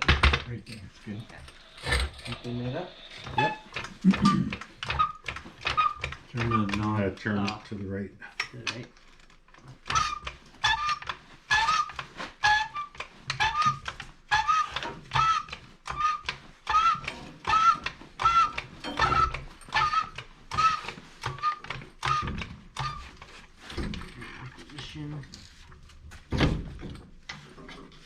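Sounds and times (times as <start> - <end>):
floor jack squeaking and clacking: 0.0 - 7.6, 9.6 - 25.1.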